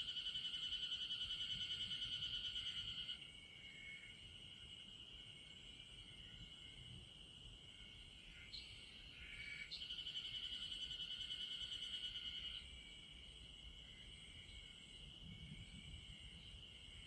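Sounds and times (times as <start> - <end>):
insect fast pulsing trill: 0.0 - 7.0, 7.7 - 17.0
insects chirping chorus: 0.0 - 17.0.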